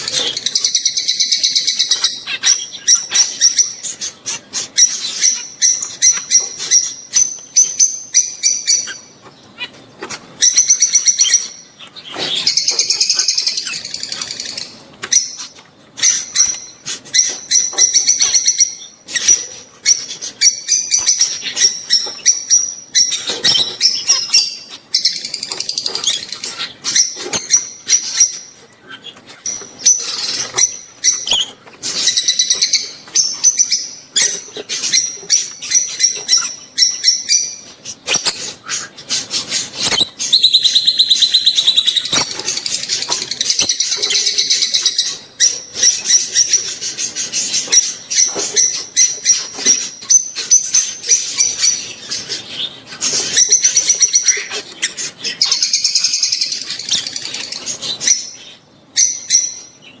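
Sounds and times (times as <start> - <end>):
lovebirds chattering and chirping: 0.0 - 60.0.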